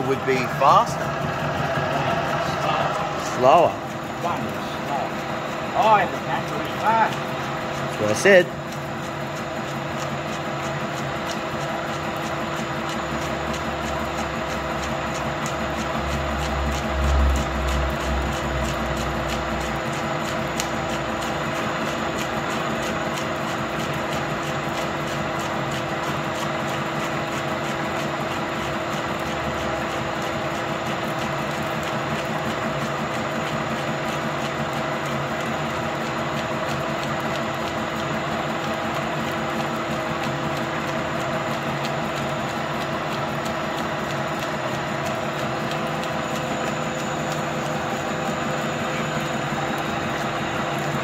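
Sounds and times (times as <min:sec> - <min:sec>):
lathe machine hum: 0:00.0 - 0:51.0.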